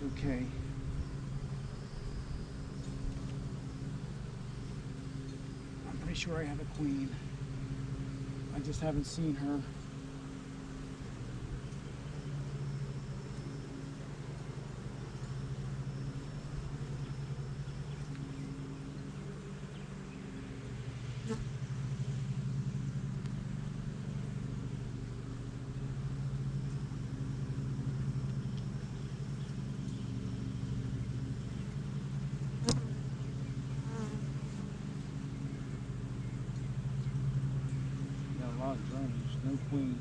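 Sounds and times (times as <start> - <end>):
honey bees buzzing: 0.0 - 40.0.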